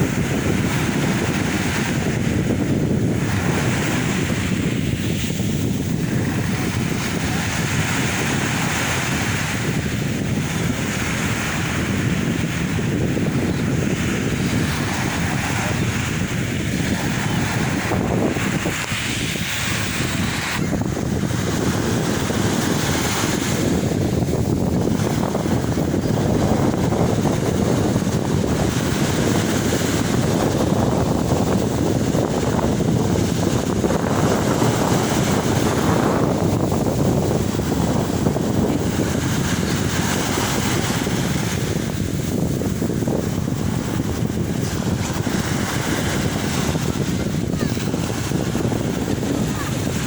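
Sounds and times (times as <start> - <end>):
sea waves breaking: 0.0 - 50.0
wind buffeting microphone: 0.0 - 50.0.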